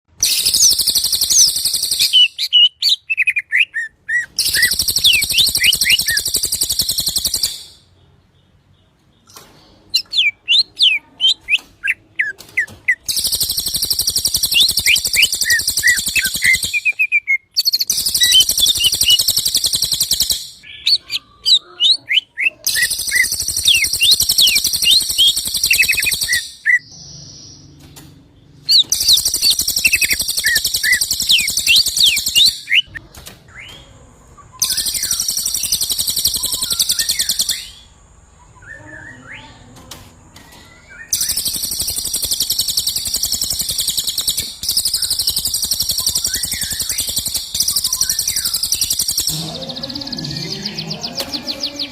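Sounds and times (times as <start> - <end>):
songbird chirping and buzzing rolls: 0.5 - 21.6, 22.6 - 51.9.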